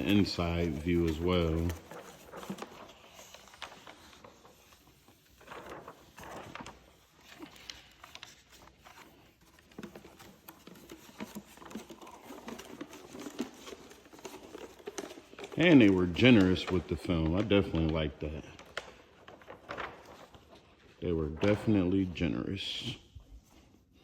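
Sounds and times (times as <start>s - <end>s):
plastic film crinkling: 0.0s - 24.0s.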